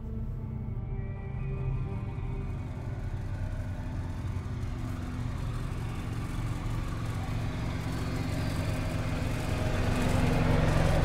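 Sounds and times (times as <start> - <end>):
vehicle engine running: 0.0 - 11.0
road noise: 2.1 - 11.0.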